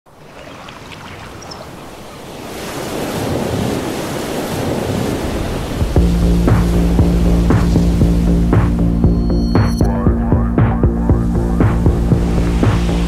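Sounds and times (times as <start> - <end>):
sea waves washing in: 0.1 - 9.4, 10.9 - 13.0.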